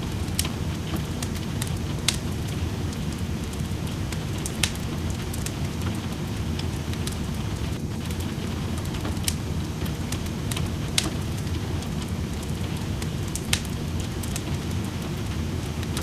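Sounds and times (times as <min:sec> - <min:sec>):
rain: 0:00.0 - 0:16.0
sharp pops of fire: 0:00.0 - 0:16.0
wood fire crackling: 0:00.0 - 0:16.0.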